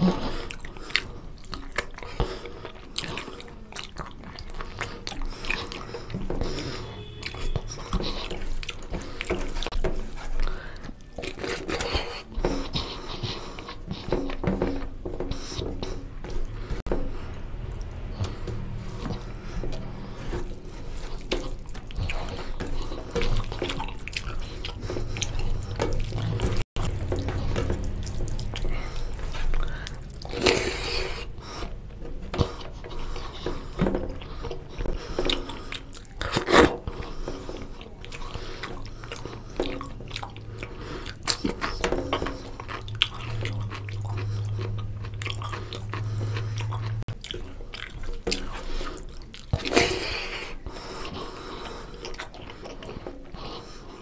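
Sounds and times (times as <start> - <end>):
close chewing and mouth clicks: 0.0 - 54.0.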